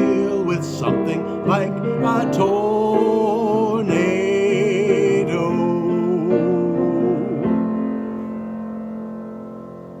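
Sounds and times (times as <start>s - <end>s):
piano chord: 0.0s - 10.0s.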